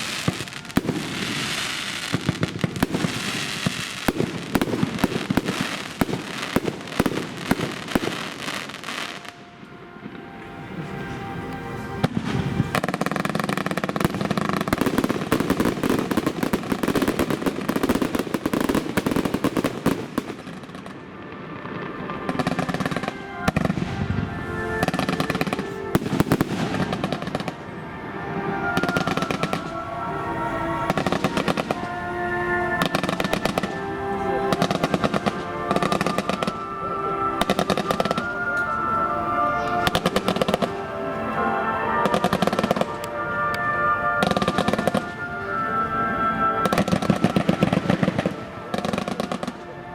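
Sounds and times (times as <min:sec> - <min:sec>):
fireworks bangs and crackles: 0:00.0 - 0:49.9
music playing: 0:00.0 - 0:49.9.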